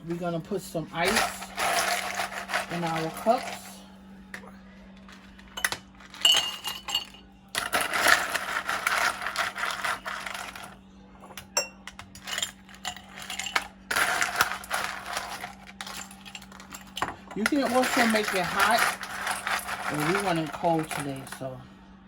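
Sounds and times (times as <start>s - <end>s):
ice cubes clinking into cups: 1.0s - 3.8s, 5.2s - 10.8s, 11.9s - 21.6s.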